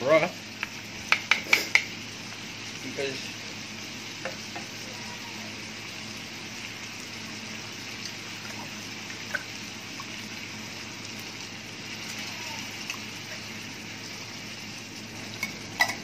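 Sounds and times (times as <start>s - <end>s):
simmering hiss: 0.0s - 15.9s
broth pouring into a pan: 0.0s - 16.0s.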